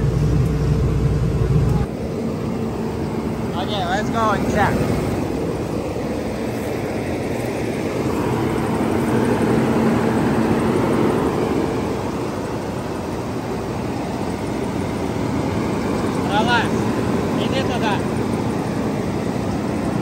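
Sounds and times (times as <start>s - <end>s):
bus engine idling: 0.0s - 20.0s.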